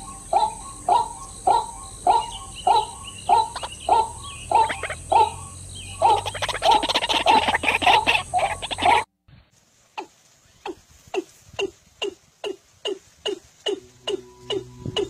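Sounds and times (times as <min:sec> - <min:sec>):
bird calling repeated notes: 0:00.0 - 0:09.1, 0:10.0 - 0:15.0.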